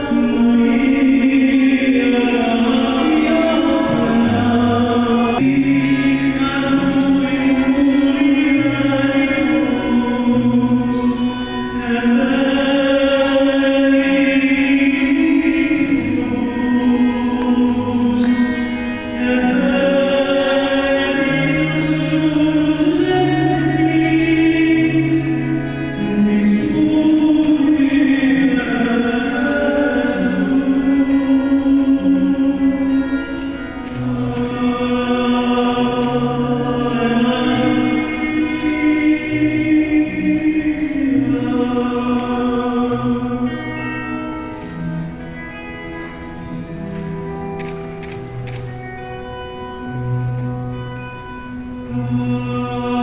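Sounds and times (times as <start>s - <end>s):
choir singing long held notes: 0.0s - 47.1s.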